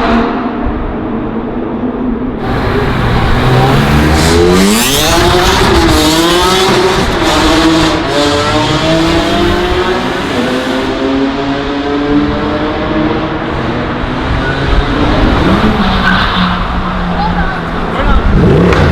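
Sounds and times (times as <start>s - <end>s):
car engine revving: 2.4s - 18.9s.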